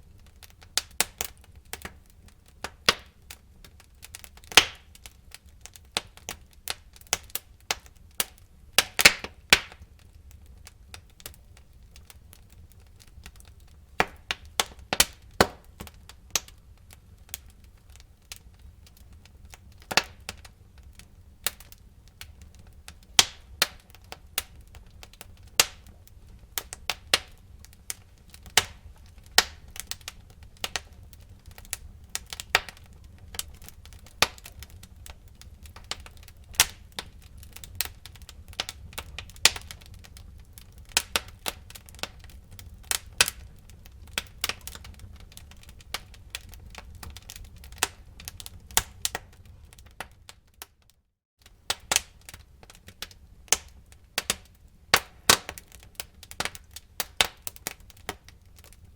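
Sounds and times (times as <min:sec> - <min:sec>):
fireplace wood crackling and popping: 0:00.0 - 0:58.9
low rumble of fire: 0:00.0 - 0:58.9.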